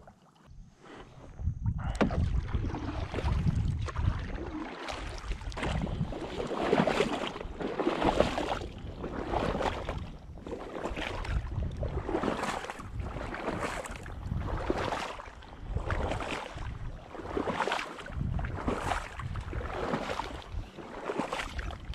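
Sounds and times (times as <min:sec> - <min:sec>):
paddle strokes swishing in water: 0:00.0 - 0:21.9
wind noise on microphone: 0:00.4 - 0:21.9.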